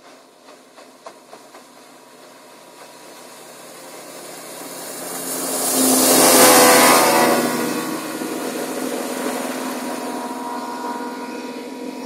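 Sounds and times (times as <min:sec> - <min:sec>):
outboard motorboat passing: 0:00.0 - 0:12.0.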